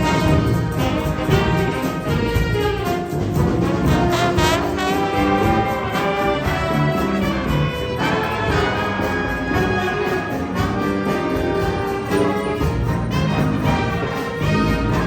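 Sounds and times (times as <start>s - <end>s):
bass guitar: 0.0s - 15.0s
piano: 0.0s - 15.0s
saxophone ensemble playing jazz: 0.0s - 15.0s.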